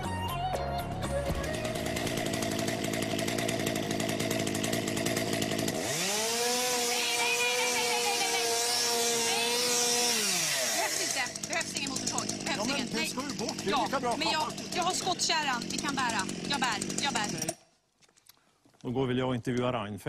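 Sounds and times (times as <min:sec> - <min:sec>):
chainsaw running: 0:01.0 - 0:17.7.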